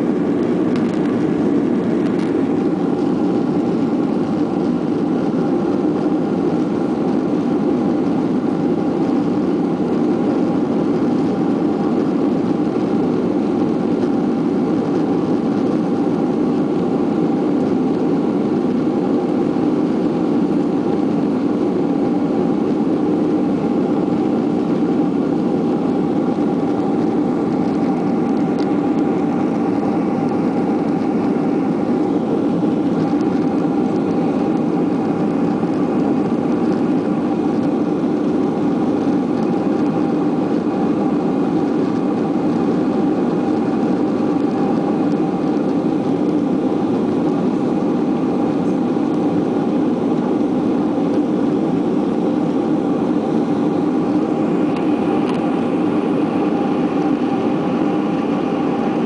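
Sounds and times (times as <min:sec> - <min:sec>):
constant hum tones: 0:00.0 - 0:59.0
jet engines and airflow rushing: 0:00.0 - 0:59.0.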